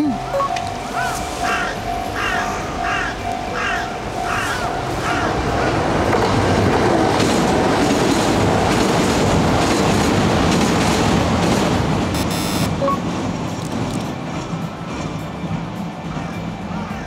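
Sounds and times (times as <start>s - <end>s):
train wheels clattering on rails: 0.5s - 12.2s, 13.0s - 17.0s.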